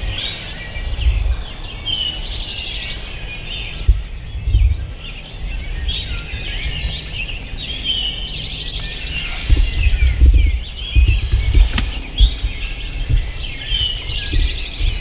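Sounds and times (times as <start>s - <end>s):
bird trills: 0.0s - 15.0s
microphone rumbling: 0.0s - 15.0s
songbirds singing: 0.0s - 15.0s.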